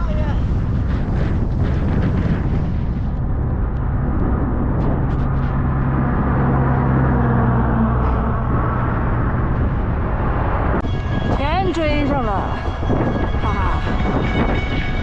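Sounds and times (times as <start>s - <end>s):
vehicle engine drone: 0.0s - 15.0s
wind rumbling on microphone: 0.0s - 15.0s.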